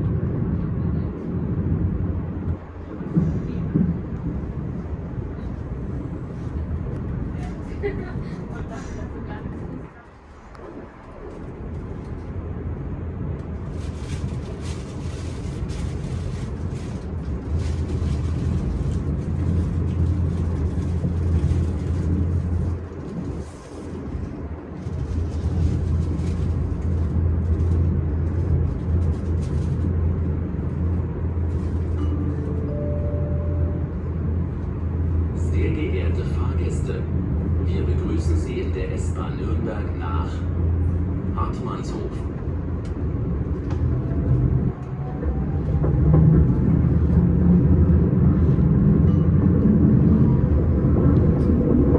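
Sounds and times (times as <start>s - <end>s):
electric train rumbling: 0.0s - 51.9s
wheels rattling on track: 2.1s - 51.9s.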